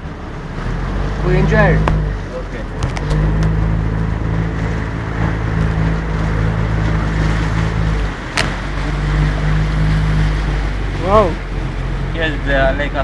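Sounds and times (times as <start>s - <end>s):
outboard motor humming: 0.0s - 13.0s
water rushing along hull: 0.0s - 13.0s.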